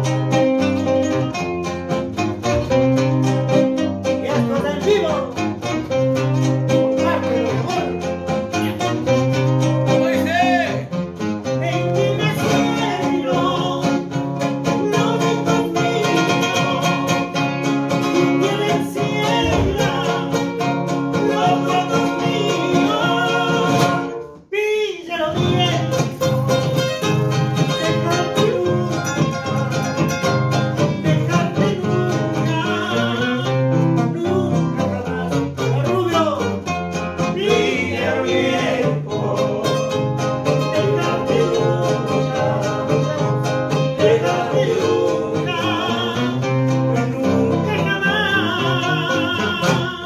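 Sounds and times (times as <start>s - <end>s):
acoustic guitars playing: 0.0s - 50.0s
man singing: 3.0s - 50.0s.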